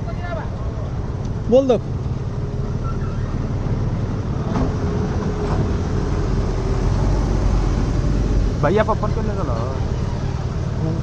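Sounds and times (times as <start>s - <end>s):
heavy diesel machinery rumbling: 0.0s - 11.0s.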